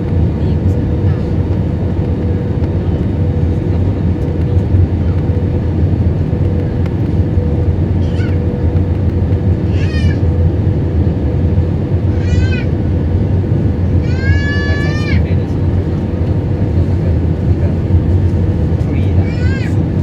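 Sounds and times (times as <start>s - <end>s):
aircraft cabin roar: 0.0s - 20.0s
constant hum: 0.0s - 20.0s.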